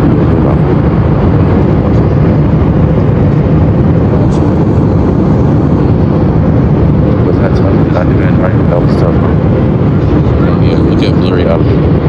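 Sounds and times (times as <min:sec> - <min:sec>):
jet airliner cabin roar: 0:00.0 - 0:12.0.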